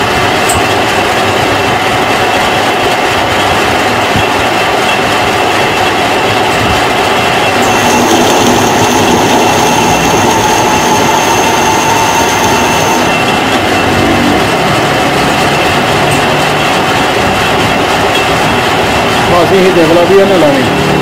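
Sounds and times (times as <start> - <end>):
metal lathe machining: 0.0 - 21.0.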